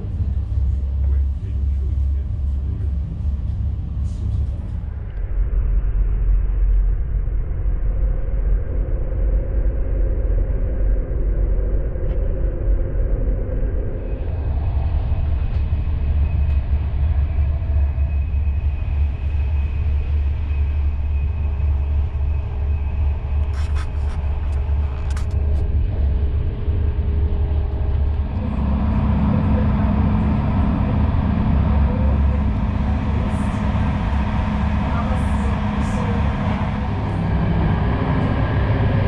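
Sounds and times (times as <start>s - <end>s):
train carriage rumble: 0.0s - 8.0s, 13.6s - 39.0s
droning hum: 0.0s - 39.0s.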